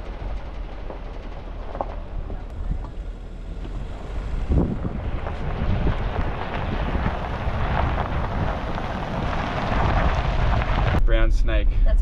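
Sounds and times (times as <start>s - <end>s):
wind buffeting microphone: 0.0s - 11.1s
vehicle rumble: 0.0s - 12.0s.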